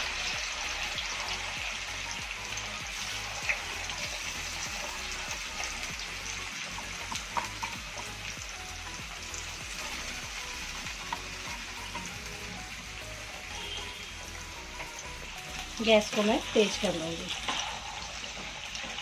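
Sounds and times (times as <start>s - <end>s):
potato strips deep-frying in oil: 0.0s - 19.0s.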